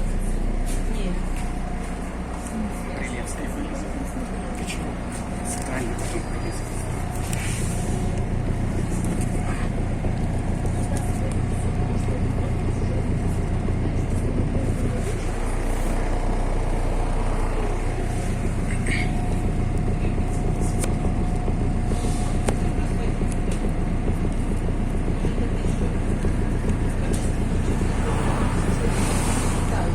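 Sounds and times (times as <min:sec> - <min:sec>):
bus engine drone: 0:00.0 - 0:29.9
road noise: 0:00.0 - 0:29.9.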